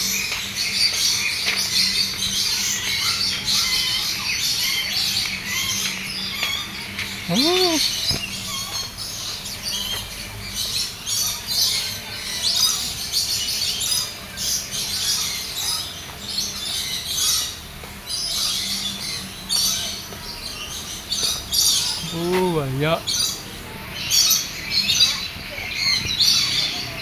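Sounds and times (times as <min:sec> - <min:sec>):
many birds chirping and squawking: 0:00.0 - 0:27.0.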